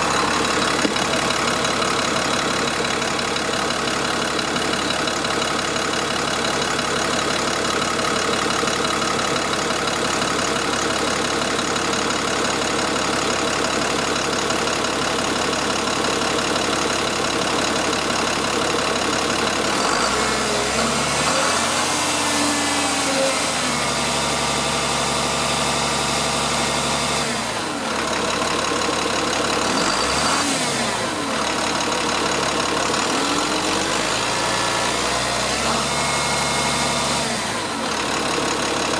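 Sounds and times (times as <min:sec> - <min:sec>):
diesel engine idling and revving: 0:00.0 - 0:38.9.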